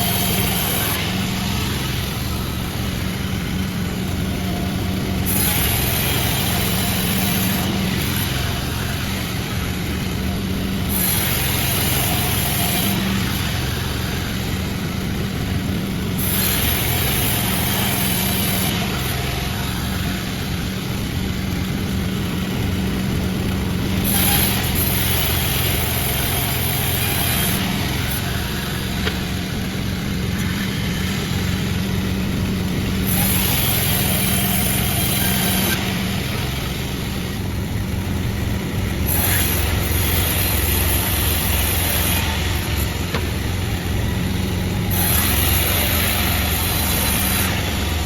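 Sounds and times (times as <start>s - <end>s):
sawmill sawing log: 0.0s - 48.0s.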